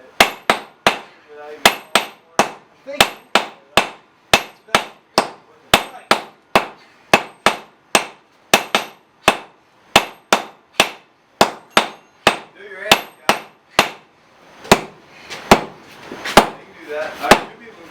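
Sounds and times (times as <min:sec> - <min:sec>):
hammers striking steel on anvil: 0:00.1 - 0:14.1, 0:14.7 - 0:15.8, 0:16.4 - 0:16.6.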